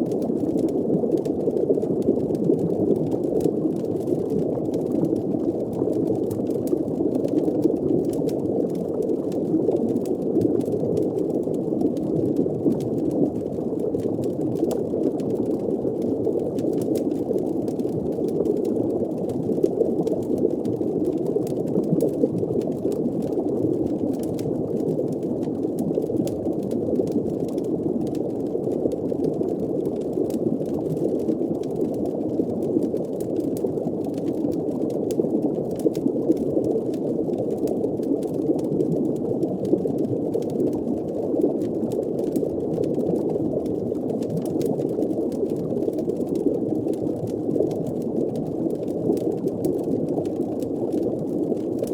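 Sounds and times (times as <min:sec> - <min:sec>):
underwater bubbling wash: 0:00.0 - 0:51.9.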